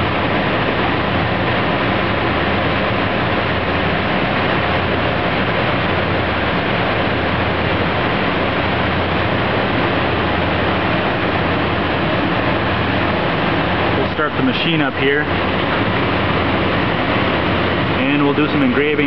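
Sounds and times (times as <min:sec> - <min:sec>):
shop machinery rushing and humming: 0:00.0 - 0:19.0.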